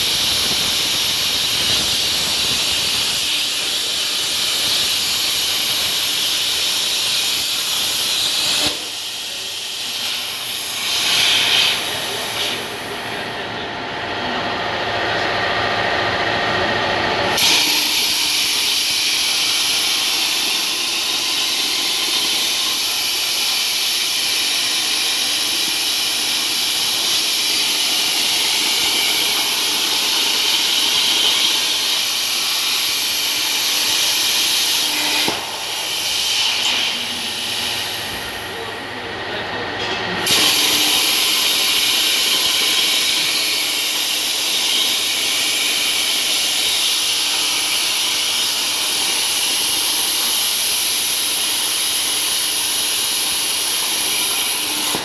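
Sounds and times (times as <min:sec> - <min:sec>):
plasma torch cutting sheet steel: 0:00.0 - 0:13.1, 0:17.3 - 0:38.8, 0:39.8 - 0:55.0.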